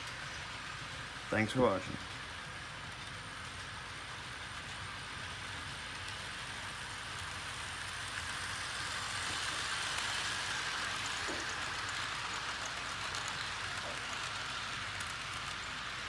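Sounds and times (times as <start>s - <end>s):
model train wheels on rails: 0.0s - 16.0s.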